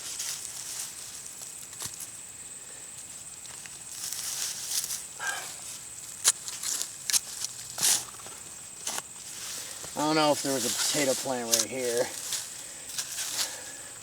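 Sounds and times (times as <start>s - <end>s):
soil and foliage rustling: 0.0s - 14.0s.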